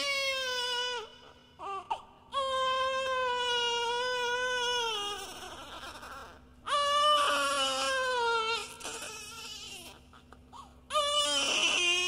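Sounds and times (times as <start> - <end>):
baby crying: 0.0 - 12.0.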